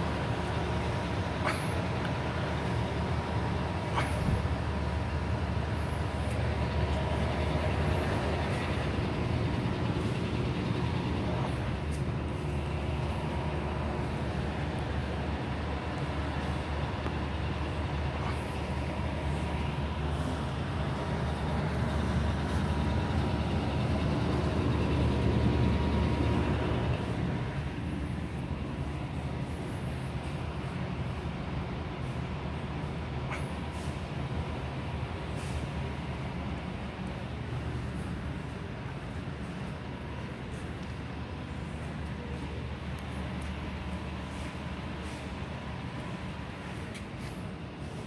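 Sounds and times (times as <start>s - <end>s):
low rumbling background noise: 0.0s - 48.0s.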